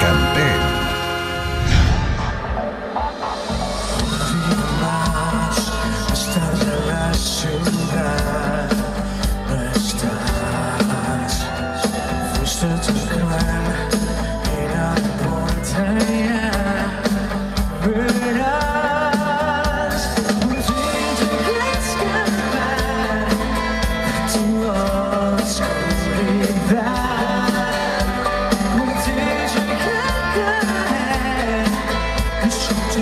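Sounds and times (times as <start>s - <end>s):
live rock band with singer: 0.0s - 33.0s.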